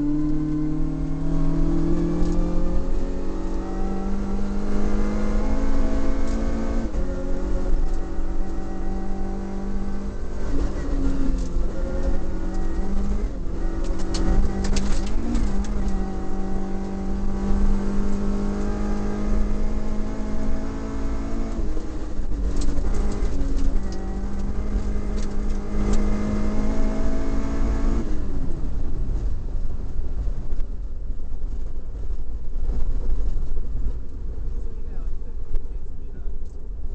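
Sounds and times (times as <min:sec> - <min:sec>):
car engine under load: 0:00.0 - 0:36.9.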